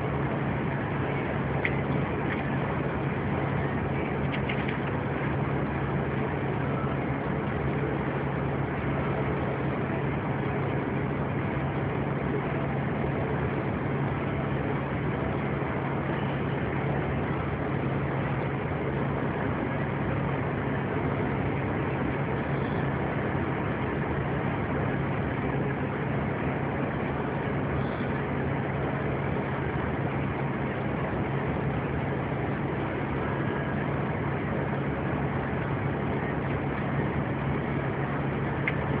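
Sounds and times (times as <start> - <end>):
car engine hum: 0.0 - 39.0.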